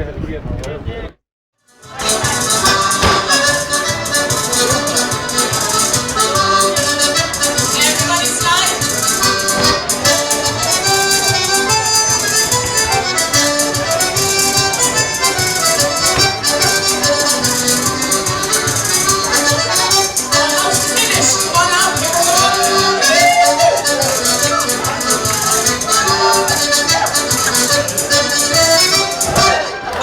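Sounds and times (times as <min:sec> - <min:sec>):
accordion dance music: 0:01.7 - 0:30.0.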